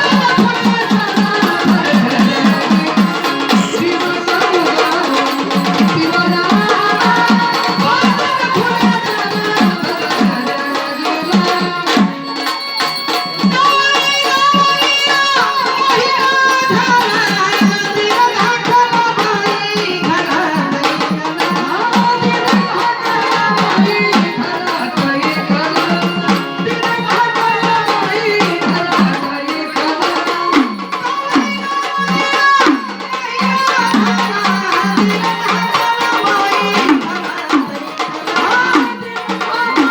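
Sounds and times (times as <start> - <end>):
drum beating fast rhythm: 0.0 - 39.9.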